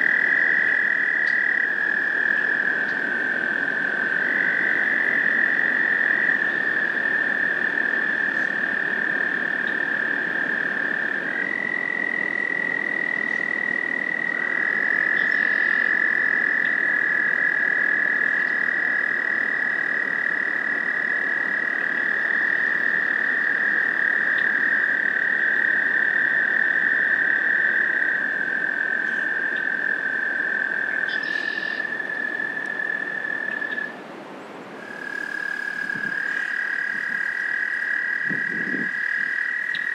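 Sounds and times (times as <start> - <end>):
toads trilling: 0.0 - 33.9, 34.8 - 39.9.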